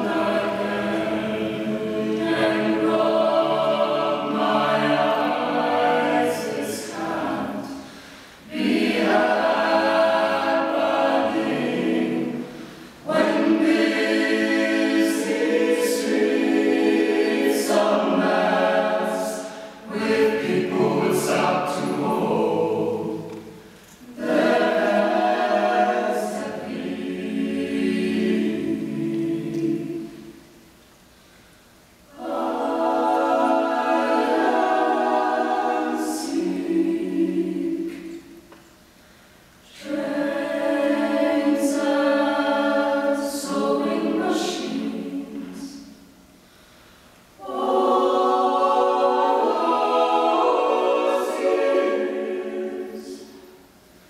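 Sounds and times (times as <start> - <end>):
a cappella group singing: 0.0 - 30.6, 32.1 - 38.5, 39.6 - 46.3, 47.3 - 53.8.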